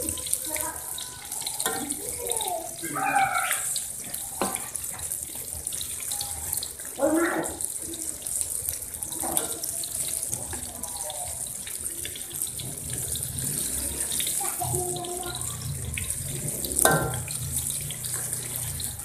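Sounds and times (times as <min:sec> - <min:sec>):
oil sizzling: 0:00.0 - 0:19.0.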